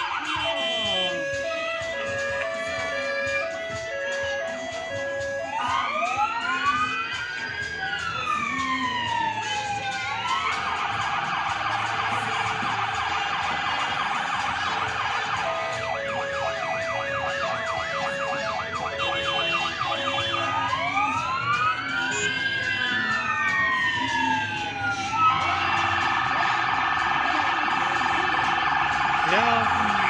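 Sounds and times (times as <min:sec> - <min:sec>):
siren fast yelp: 0:00.0 - 0:30.0
siren rising and falling wails: 0:00.0 - 0:30.0
siren slow warble: 0:00.0 - 0:30.0.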